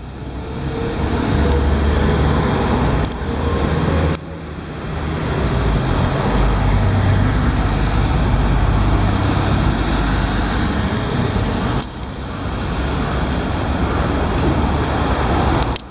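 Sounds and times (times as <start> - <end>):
road noise: 0.0 - 15.9
truck diesel engine rumble: 0.0 - 15.9.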